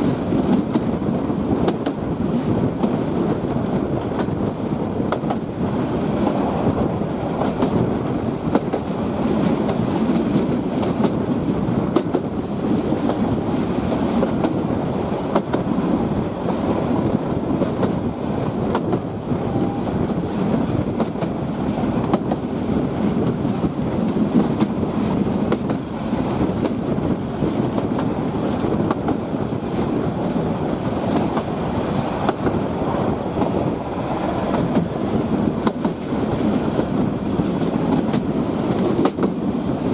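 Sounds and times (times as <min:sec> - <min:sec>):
rail clicks and clacks: 0:00.0 - 0:39.9
train wheels rumbling on track: 0:00.0 - 0:39.9.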